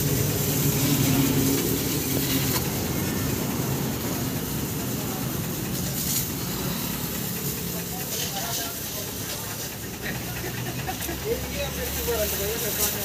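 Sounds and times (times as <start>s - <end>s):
pressure washer humming: 0.0s - 13.0s
water jet hissing: 0.0s - 13.0s.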